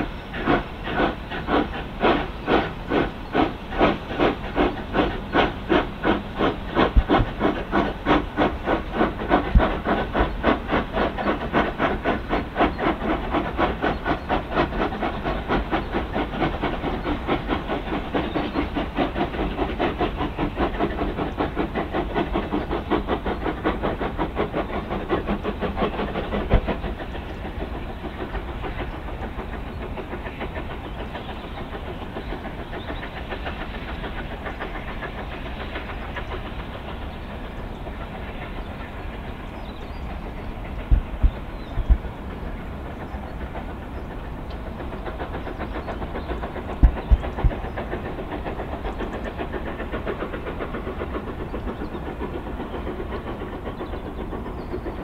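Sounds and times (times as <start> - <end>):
rumble of train running: 0.0 - 55.0
steam locomotive exhaust beating: 0.0 - 55.0.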